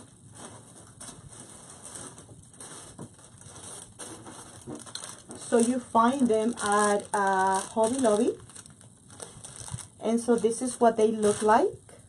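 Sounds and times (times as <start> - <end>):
craft supplies rustling and clattering: 0.0 - 11.7.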